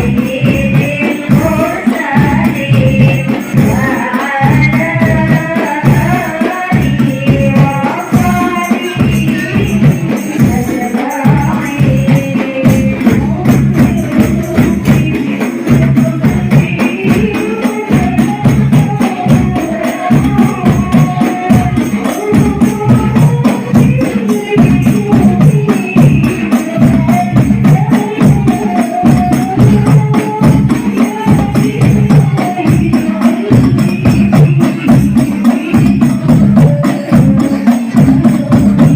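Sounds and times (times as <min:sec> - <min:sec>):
devotional singing: 0:00.0 - 0:38.9
frame drums beating: 0:00.0 - 0:38.9
tambourine jingling: 0:00.0 - 0:38.9.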